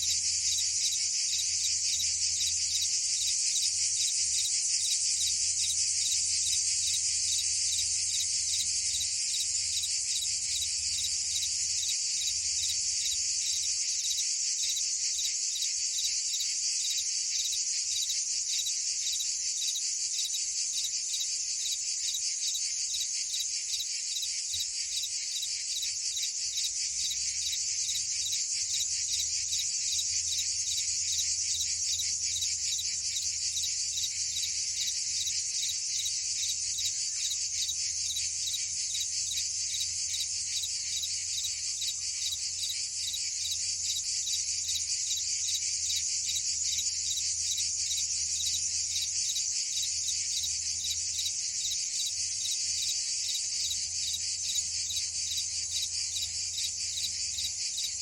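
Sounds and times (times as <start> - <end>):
crickets and cicadas trilling: 0.0 - 58.0.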